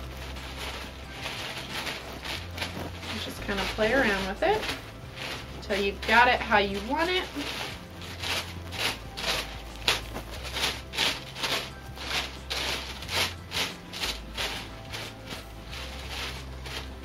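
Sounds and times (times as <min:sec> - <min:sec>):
tissue paper rustling and crinkling: 0:00.0 - 0:17.0.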